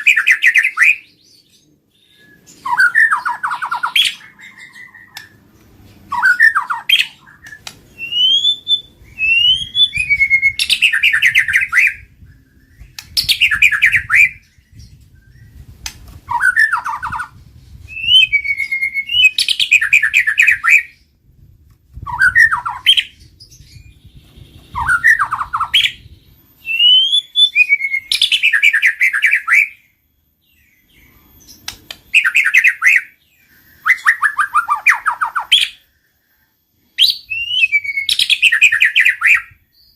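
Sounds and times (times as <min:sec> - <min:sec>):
songbird singing: 0:00.0 - 0:21.4, 0:22.0 - 0:39.9.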